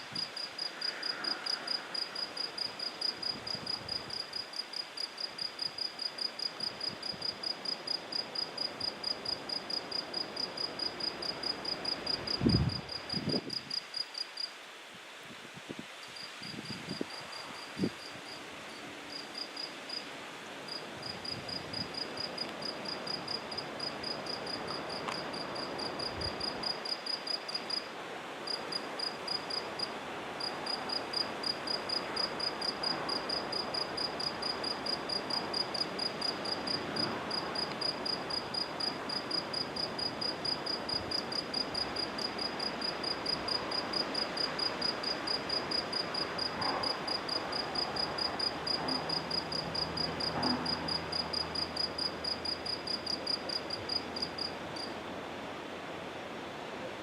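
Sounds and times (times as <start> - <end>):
cricket chirping: 0.0 - 14.6, 16.0 - 55.0
background hiss: 0.0 - 57.0.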